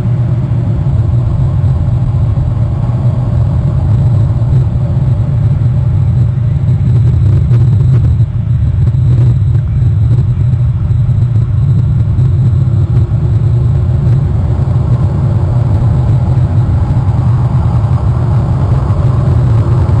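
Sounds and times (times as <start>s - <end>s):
loud low rumble: 0.0s - 20.0s.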